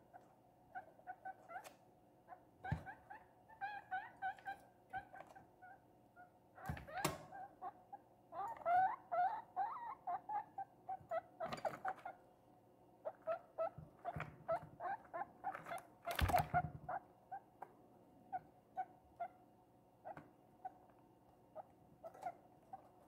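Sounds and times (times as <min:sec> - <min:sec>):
guinea pig squeaking: 0:00.1 - 0:12.2, 0:13.0 - 0:17.6, 0:18.3 - 0:19.4, 0:20.0 - 0:20.8, 0:21.5 - 0:23.0.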